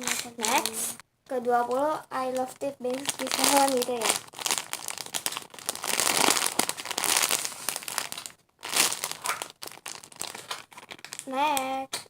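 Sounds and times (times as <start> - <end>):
plastic crinkling squishy toy: 0.0 - 12.0.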